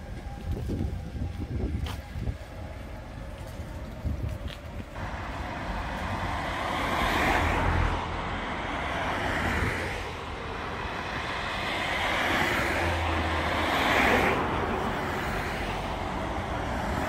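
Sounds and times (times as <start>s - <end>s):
cars passing by: 0.0s - 17.0s.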